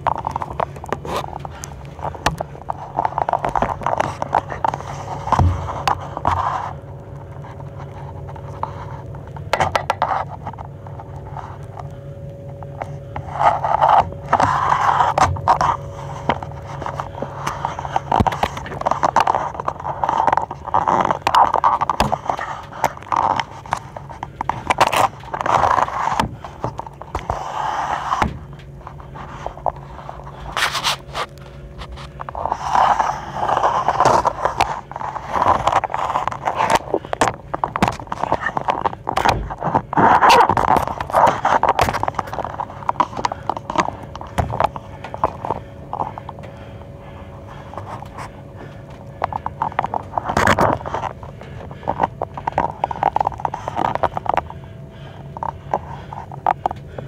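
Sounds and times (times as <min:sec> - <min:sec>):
scraping and rubbing: 0:00.0 - 0:12.0, 0:12.6 - 0:57.0
steady low hum: 0:00.0 - 0:57.0.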